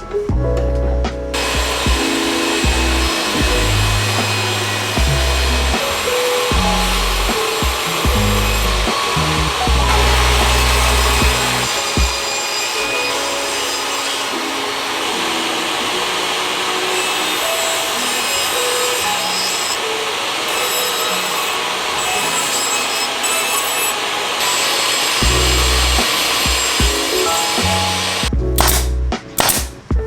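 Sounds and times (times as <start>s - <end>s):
tool rasping wood: 1.4s - 28.8s.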